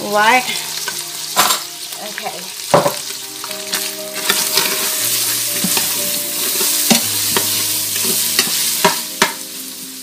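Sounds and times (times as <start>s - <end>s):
ground beef sizzling in oil: 0.0s - 10.0s.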